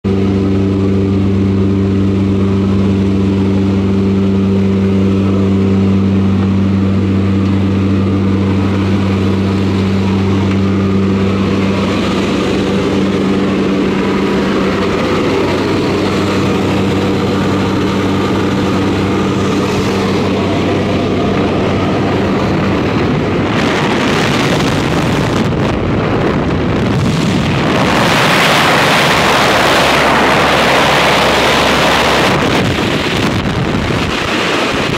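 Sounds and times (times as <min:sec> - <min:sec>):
loud wind noise: 0:00.0 - 0:34.9
propeller plane engine humming: 0:00.0 - 0:34.9.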